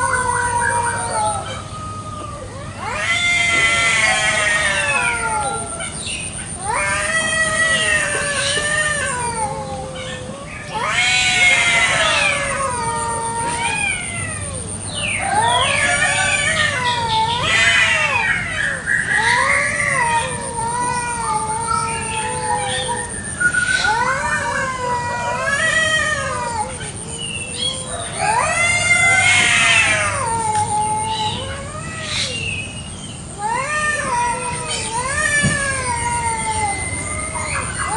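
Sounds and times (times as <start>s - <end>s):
cats yowling: 0.0s - 37.9s.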